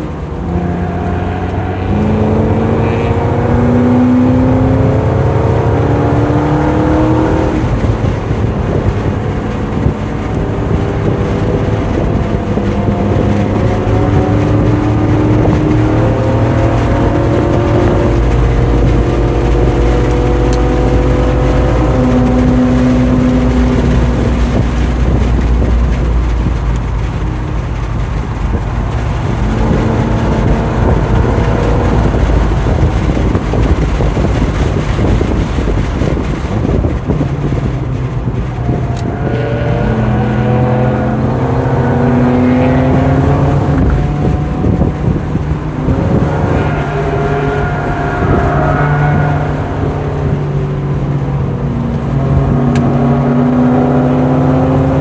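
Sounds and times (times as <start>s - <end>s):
car engine revving: 0.0s - 55.0s
wind and road noise: 0.0s - 55.0s.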